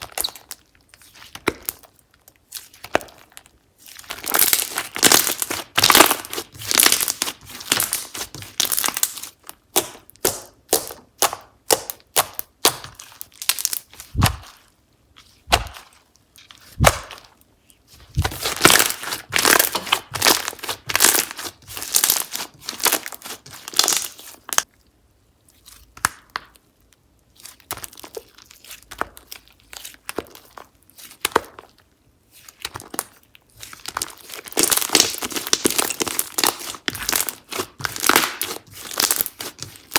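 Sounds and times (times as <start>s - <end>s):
slime crackling and popping: 0.0s - 14.7s, 15.3s - 24.8s, 25.5s - 39.9s.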